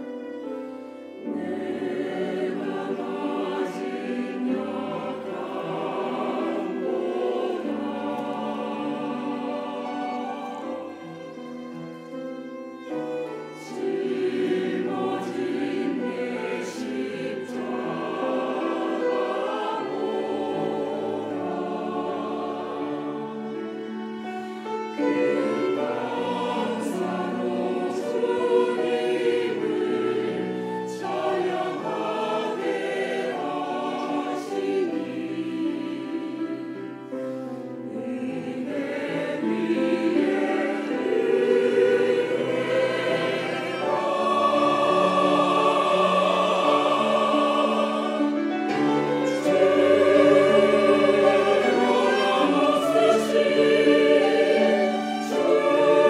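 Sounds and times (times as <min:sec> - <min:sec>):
church choir singing: 0:00.0 - 0:56.0
violins playing: 0:00.0 - 0:56.0.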